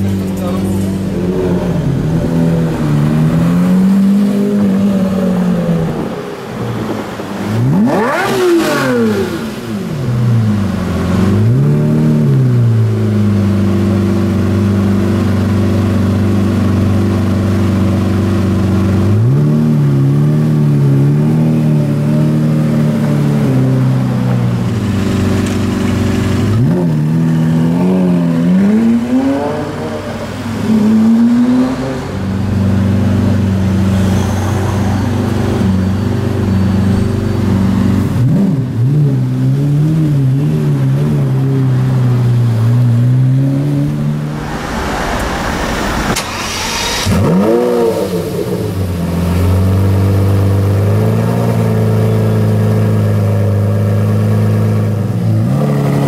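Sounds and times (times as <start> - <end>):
sports car engine revving and idling: 0.0 - 56.0.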